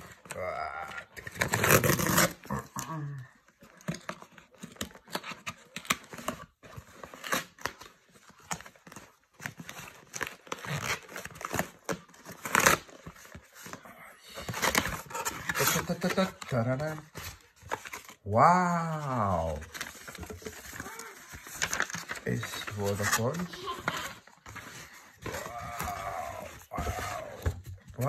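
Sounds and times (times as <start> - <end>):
cardboard box tearing: 0.0 - 2.8, 3.8 - 13.8, 14.4 - 18.2, 18.8 - 28.0.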